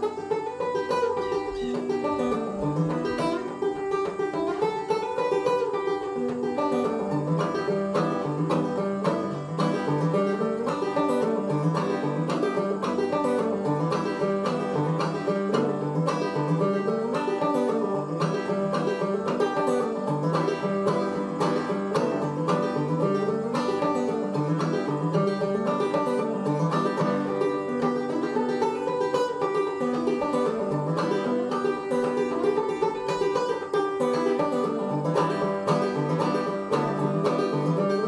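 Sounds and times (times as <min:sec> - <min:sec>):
banjo playing old-time tune: 0:00.0 - 0:38.0.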